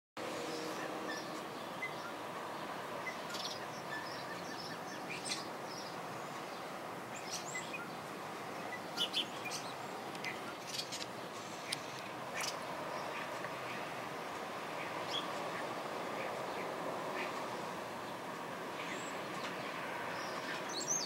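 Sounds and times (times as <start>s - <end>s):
birds chirping: 0.2s - 21.0s.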